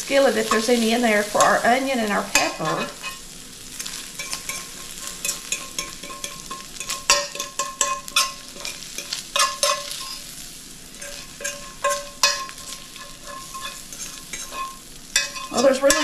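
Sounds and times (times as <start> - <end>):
fork scraping a skillet: 0.3 - 16.0.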